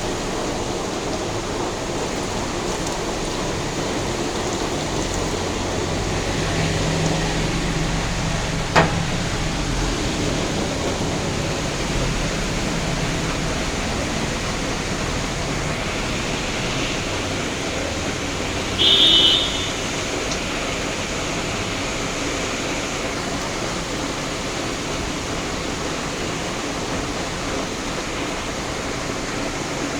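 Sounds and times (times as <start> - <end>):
heavy rain hissing: 0.0 - 29.9.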